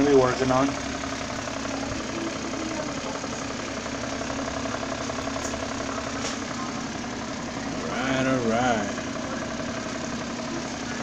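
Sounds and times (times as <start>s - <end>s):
electric fans humming: 0.0s - 11.0s.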